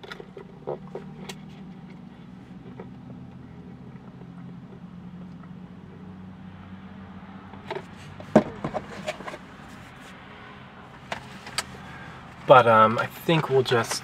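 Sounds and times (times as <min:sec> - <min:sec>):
low hum inside a car: 0:00.0 - 0:14.0.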